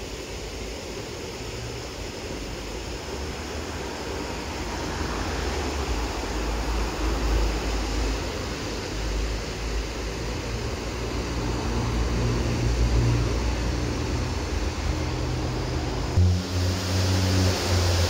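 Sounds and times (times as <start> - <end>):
traffic rumble: 3.0 - 18.0.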